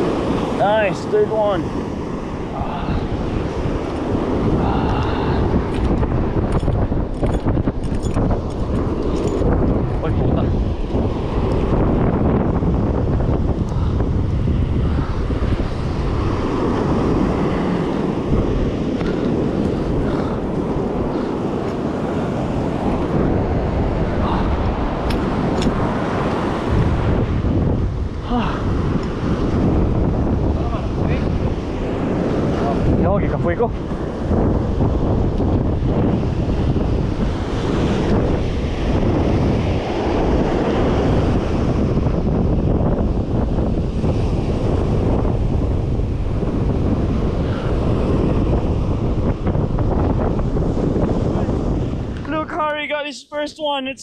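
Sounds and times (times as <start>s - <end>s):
surf breaking on beach: 0.0s - 52.6s
wind buffeting microphone: 0.0s - 54.0s.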